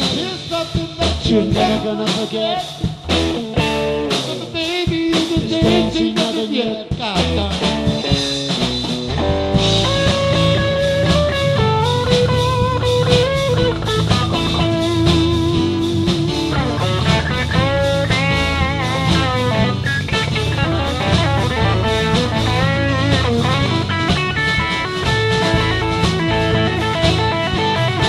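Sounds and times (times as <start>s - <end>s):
bass and drums: 0.0s - 28.0s
lead electric guitar: 0.0s - 28.0s.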